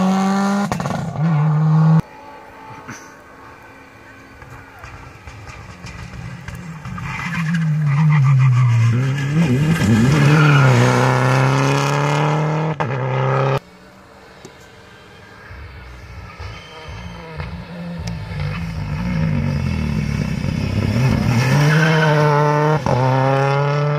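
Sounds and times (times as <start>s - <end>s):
rally car engine revving: 0.0s - 13.6s, 15.9s - 23.9s.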